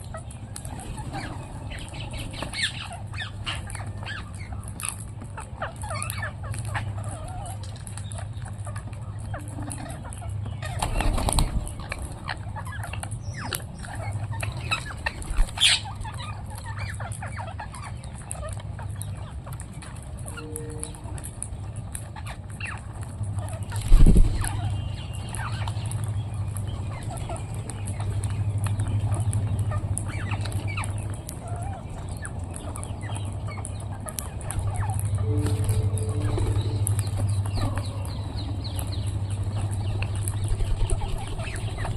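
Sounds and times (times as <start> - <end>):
parrots chattering and squawking: 0.0 - 41.9
steady low hum: 0.0 - 41.9.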